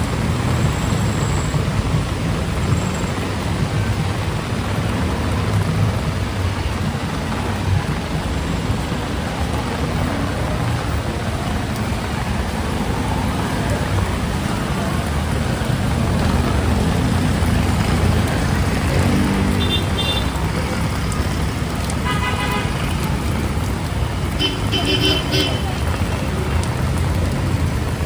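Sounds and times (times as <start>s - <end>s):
engines rumbling low: 0.0s - 28.0s
heavy rain: 0.0s - 28.0s
tyres hissing on wet street: 0.0s - 28.0s.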